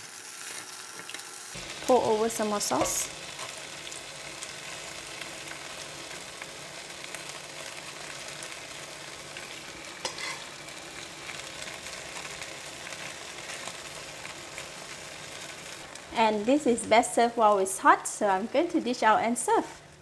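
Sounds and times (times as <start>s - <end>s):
fish sizzling in hot oil: 0.0s - 17.2s.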